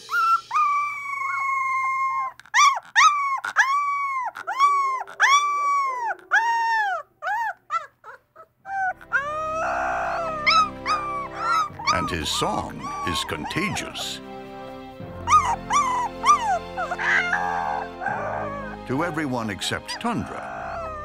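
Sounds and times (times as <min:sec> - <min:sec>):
second puppy howling: 0:00.0 - 0:14.1, 0:15.3 - 0:18.8, 0:19.9 - 0:21.0
puppy howling: 0:00.0 - 0:14.2, 0:15.2 - 0:21.0.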